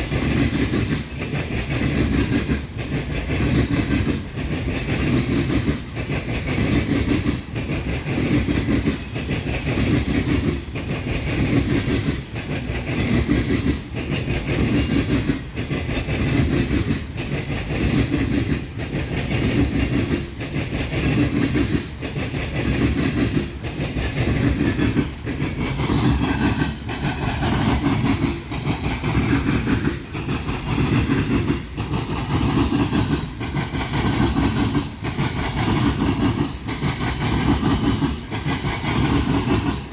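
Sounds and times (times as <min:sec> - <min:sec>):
train rumble: 0:00.0 - 0:39.9
train wheels clacking: 0:00.0 - 0:39.9.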